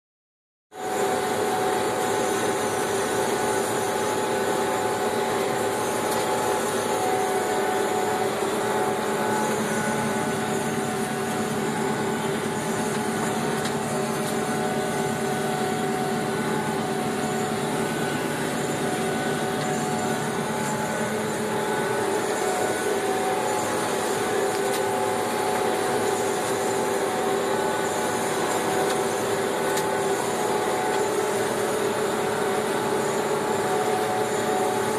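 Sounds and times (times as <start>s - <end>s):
disc mower humming: 0.8s - 34.9s
tractor diesel engine drone: 0.8s - 34.9s.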